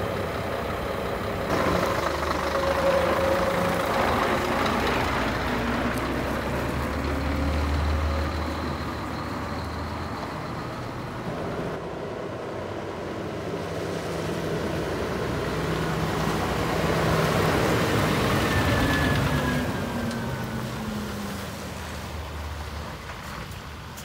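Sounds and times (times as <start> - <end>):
truck diesel engine running: 0.0 - 21.9.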